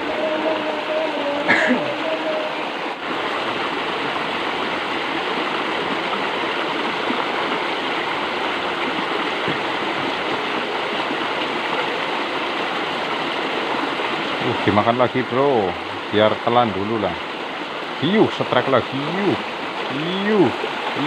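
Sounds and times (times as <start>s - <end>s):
water rushing along a channel: 0.0s - 21.0s.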